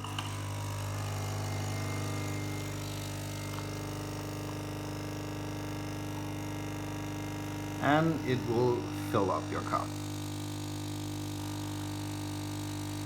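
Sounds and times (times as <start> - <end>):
coffee machine pump humming: 0.0 - 13.0.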